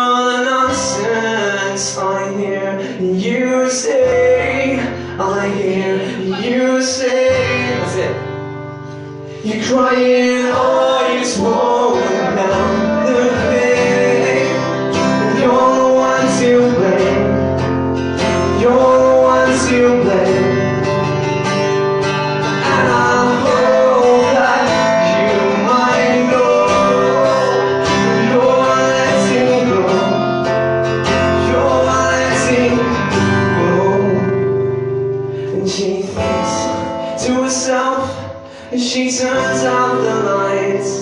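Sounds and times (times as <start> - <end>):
man singing: 0.0 - 8.4, 9.4 - 21.3, 22.4 - 41.0
acoustic guitar: 0.0 - 41.0.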